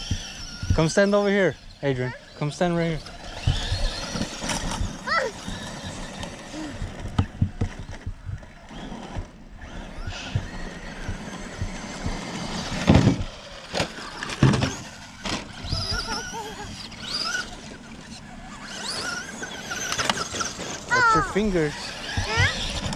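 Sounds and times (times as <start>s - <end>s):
rc truck motors whining: 0.0s - 22.9s.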